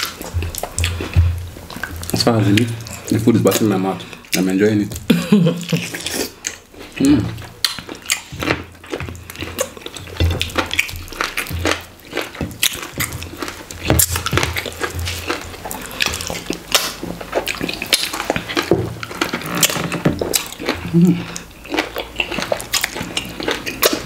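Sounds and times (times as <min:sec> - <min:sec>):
wet chewing and lip smacks: 0:00.0 - 0:24.0.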